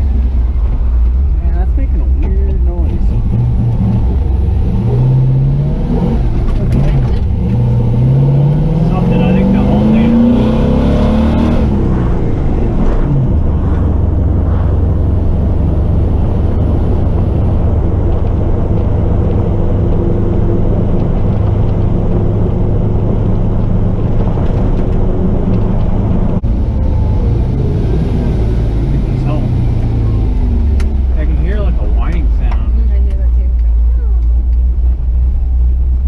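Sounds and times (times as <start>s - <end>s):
truck engine droning: 0.0s - 36.0s.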